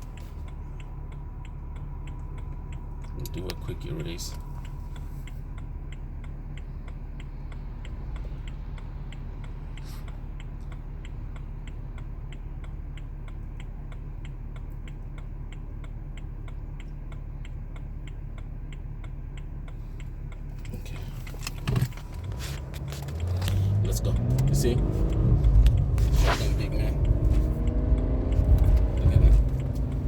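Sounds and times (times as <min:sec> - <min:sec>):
diesel engine idling: 0:00.0 - 0:30.0
hazard light flasher ticking: 0:00.0 - 0:30.0.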